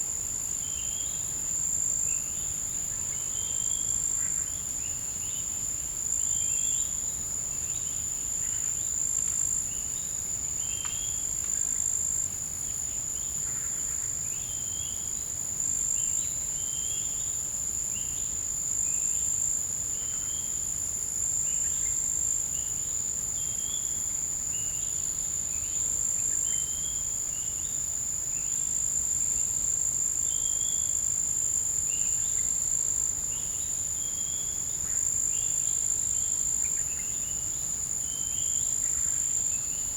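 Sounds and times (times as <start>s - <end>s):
high-pitched insect trill: 0.2s - 39.9s
insects chirping: 0.2s - 39.9s.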